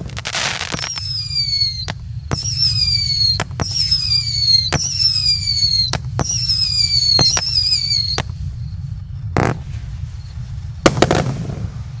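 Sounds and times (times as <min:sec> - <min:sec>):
firework bangs: 0:00.0 - 0:12.0
firework burst with crackling: 0:00.0 - 0:12.0
firework whistle: 0:00.0 - 0:12.0.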